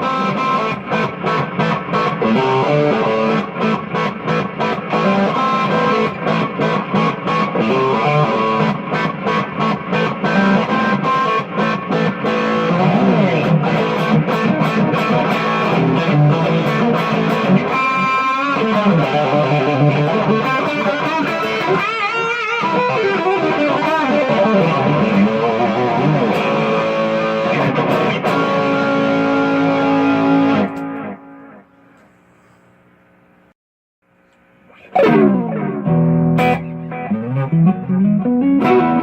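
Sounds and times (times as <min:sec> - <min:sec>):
electric guitar with delay: 0:00.0 - 0:31.7, 0:34.8 - 0:39.0.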